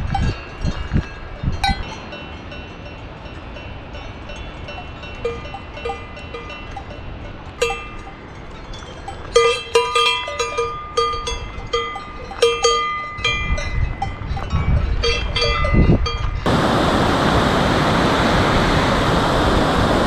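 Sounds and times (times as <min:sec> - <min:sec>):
cowbells clanking: 0:00.0 - 0:16.5.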